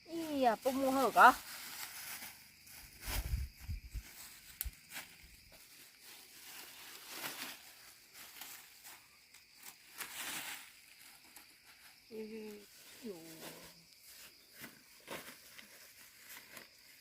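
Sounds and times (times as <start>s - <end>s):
faint rustling and scuffing: 0.1s - 17.0s.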